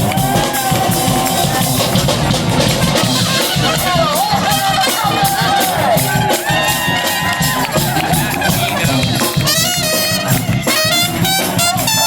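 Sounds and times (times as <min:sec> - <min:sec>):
bass line: 0:00.0 - 0:12.0
brass band playing: 0:00.0 - 0:12.0
drum beat: 0:00.0 - 0:12.0.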